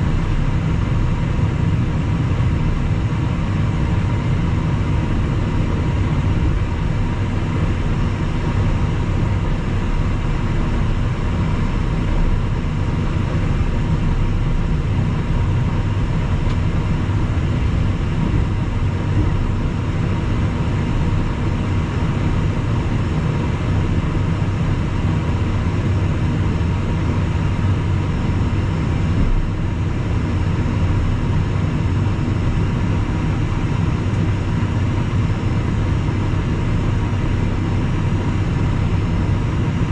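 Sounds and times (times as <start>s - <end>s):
jet cockpit engine rumble: 0.0s - 39.9s.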